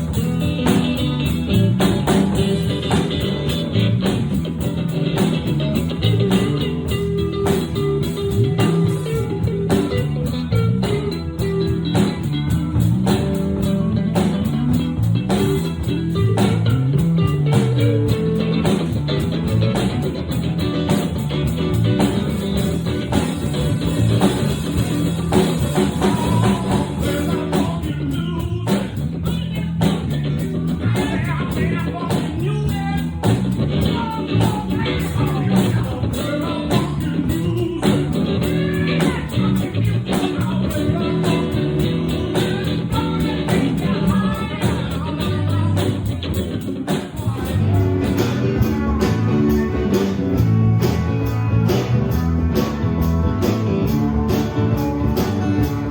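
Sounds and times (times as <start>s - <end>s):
bass guitar: 0.0s - 55.9s
drum kit: 0.0s - 55.9s
guitars: 0.0s - 55.9s.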